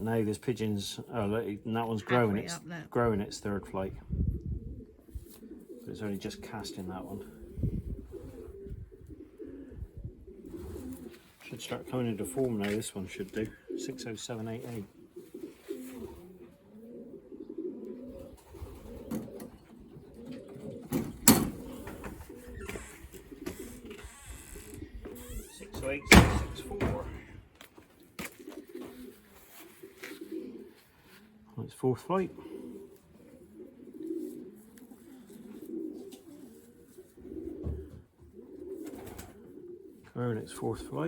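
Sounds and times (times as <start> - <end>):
pigeons cooing: 3.4 - 41.0.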